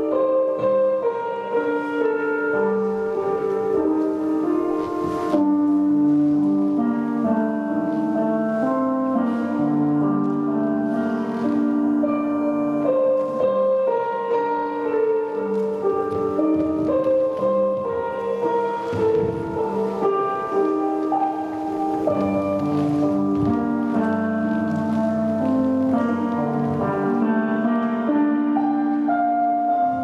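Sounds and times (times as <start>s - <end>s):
slow instrumental music: 0.0s - 30.0s.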